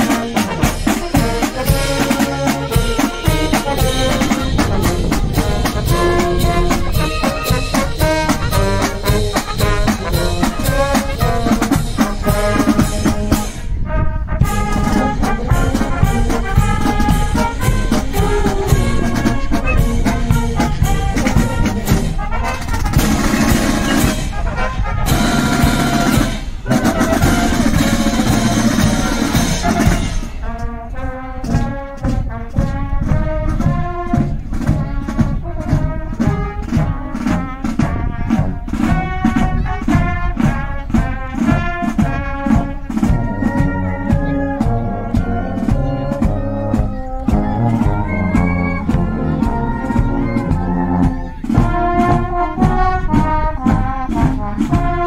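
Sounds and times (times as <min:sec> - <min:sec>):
brass band playing a march: 0:00.0 - 0:55.0
snare drums: 0:00.0 - 0:55.0.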